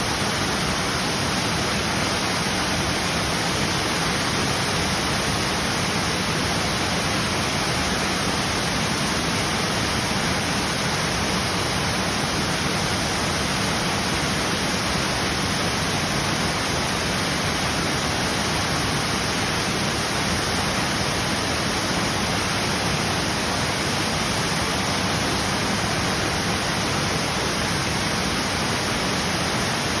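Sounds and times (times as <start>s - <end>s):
waterfall rushing water: 0.0s - 30.0s.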